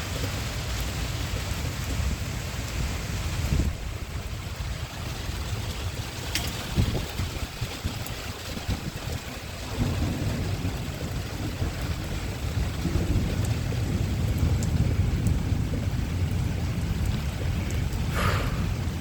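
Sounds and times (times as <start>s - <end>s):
low thunder rumble: 0.0s - 19.0s
rain: 0.0s - 19.0s
wind: 0.0s - 19.0s.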